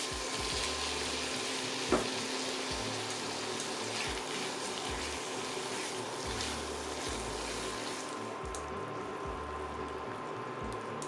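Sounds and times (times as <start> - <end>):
food sizzling in a pan: 0.0 - 10.3
background music: 0.0 - 11.0.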